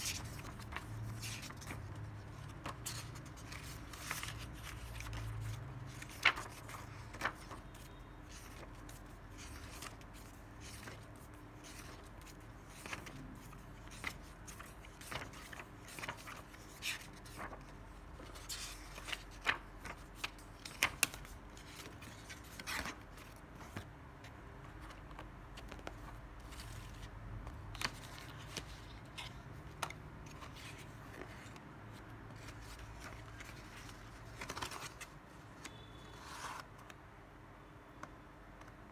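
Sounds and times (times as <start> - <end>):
paper pages turning: 0.0 - 31.6, 32.3 - 37.0.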